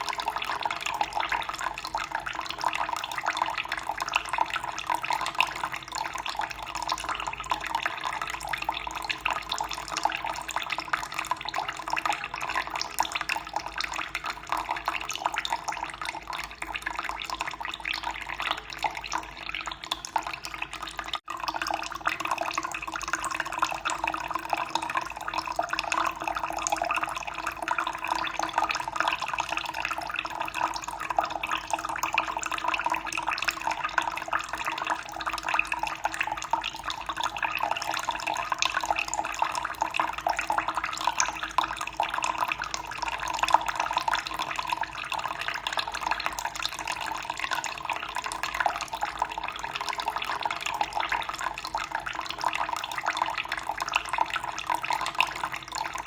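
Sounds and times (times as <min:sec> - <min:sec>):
water dripping: 0:00.0 - 0:56.0.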